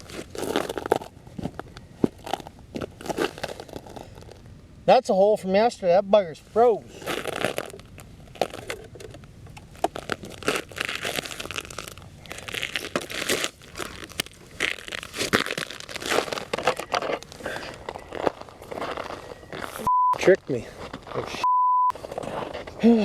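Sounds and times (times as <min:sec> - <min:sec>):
snow and ice crunching: 0:00.0 - 0:04.6, 0:06.3 - 0:23.0.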